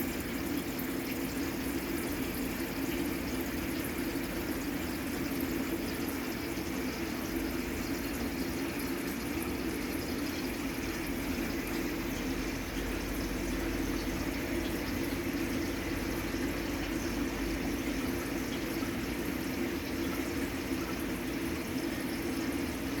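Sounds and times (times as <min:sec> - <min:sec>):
aquarium water trickling and bubbling: 0:00.0 - 0:23.0.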